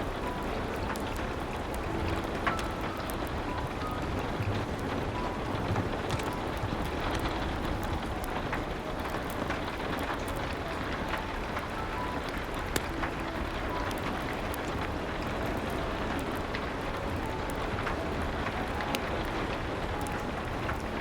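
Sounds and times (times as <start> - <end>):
steady rain: 0.0 - 21.0
sharp clicks and crackles: 0.2 - 21.0.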